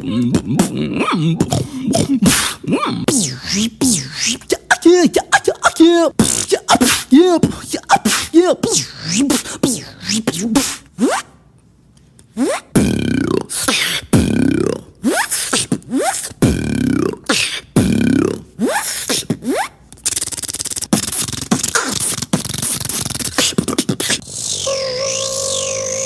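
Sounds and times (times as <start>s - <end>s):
beatboxer rattling buzz: 1.4s - 11.3s, 12.4s - 26.0s
beatboxer falling swoop: 1.4s - 11.4s, 12.3s - 26.0s.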